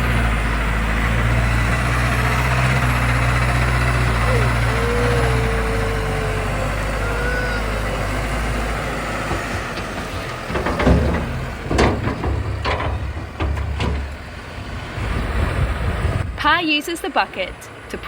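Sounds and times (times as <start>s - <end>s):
loader bucket scraping gravel: 0.0s - 16.0s
tractor diesel engine running: 0.0s - 18.0s.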